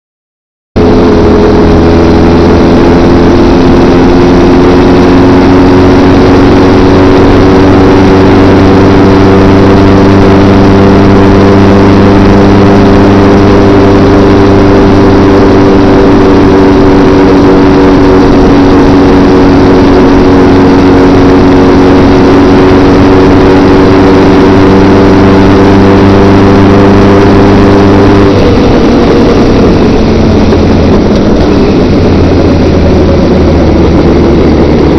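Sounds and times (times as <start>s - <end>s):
motorcycle engine cruising: 0.8s - 34.9s
road noise: 0.8s - 34.9s
wind noise: 0.8s - 34.9s.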